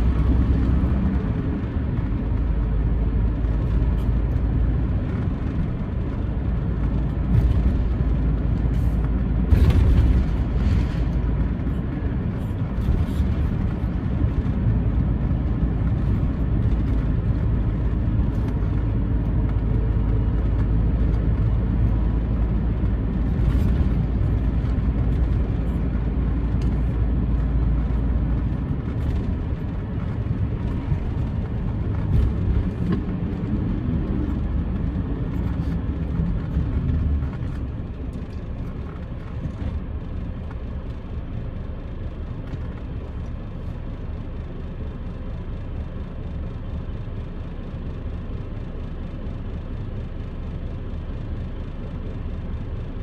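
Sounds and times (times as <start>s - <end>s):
vehicle engine and road rumble: 0.0s - 53.0s.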